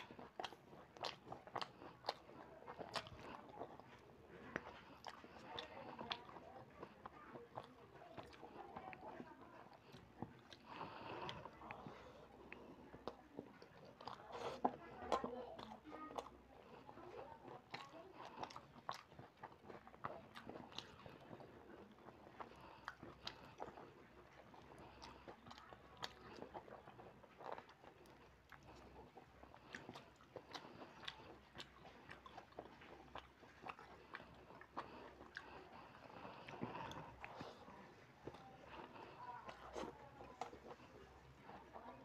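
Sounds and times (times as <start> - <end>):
chewing and mouth smacks: 0.0 - 42.0.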